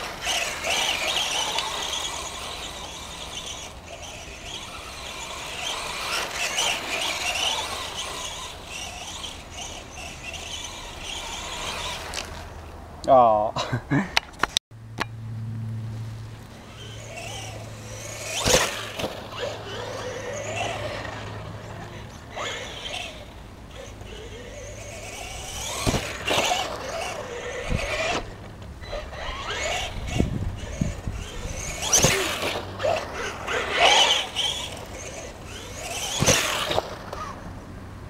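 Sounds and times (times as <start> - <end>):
rc car motor whining: 0.0 - 12.7, 16.6 - 37.6.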